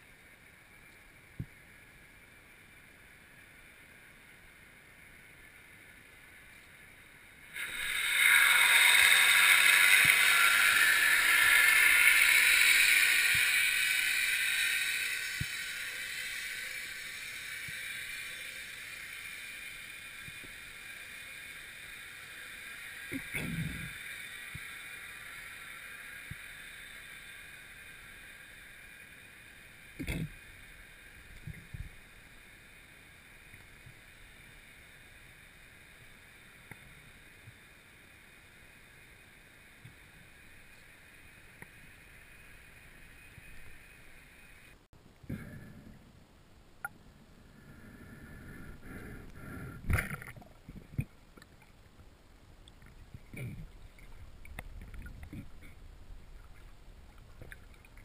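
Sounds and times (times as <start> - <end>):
underwater hiss: 0.0 - 45.9, 47.5 - 51.1.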